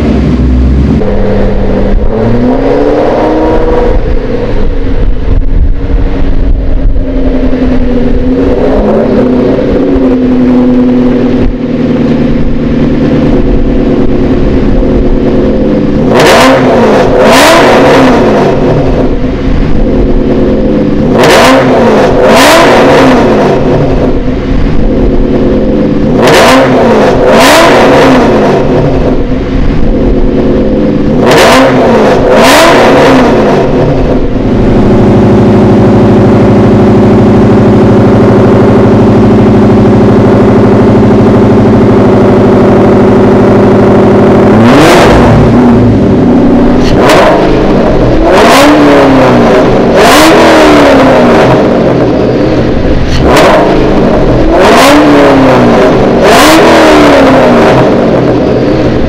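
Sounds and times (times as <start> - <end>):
car engine idling: 0.0 - 59.0
engine revving throttle blips: 0.0 - 59.0.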